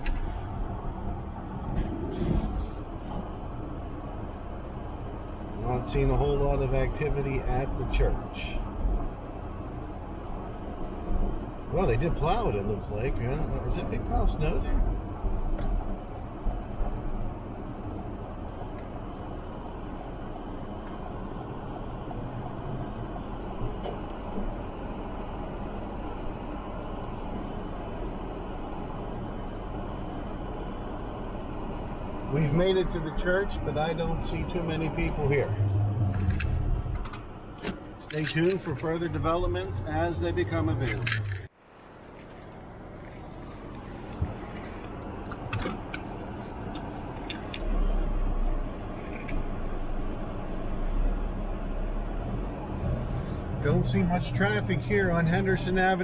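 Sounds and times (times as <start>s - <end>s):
car engine in cabin: 0.0s - 56.0s
road noise: 0.0s - 56.0s.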